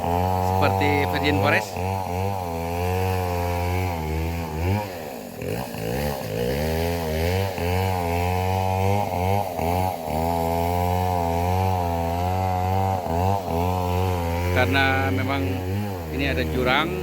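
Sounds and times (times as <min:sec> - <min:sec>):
engine running with wavering pitch: 0:00.0 - 0:17.0.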